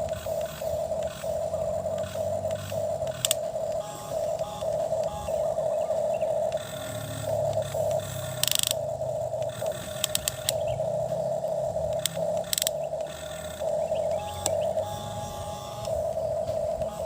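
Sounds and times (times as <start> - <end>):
rapid gear clicking: 0.0 - 5.5, 6.2 - 17.0
low hum: 0.0 - 17.0
toy electric motor whining: 0.0 - 17.0.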